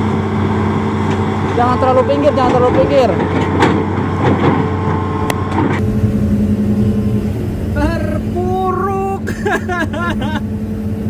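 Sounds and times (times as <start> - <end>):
excavator diesel engine under load: 0.0 - 11.0.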